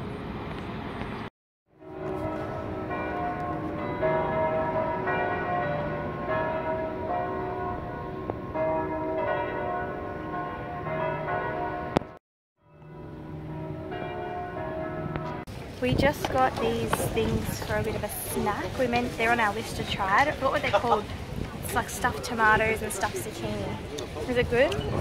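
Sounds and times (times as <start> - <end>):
church bells ringing: 1.8 - 25.0.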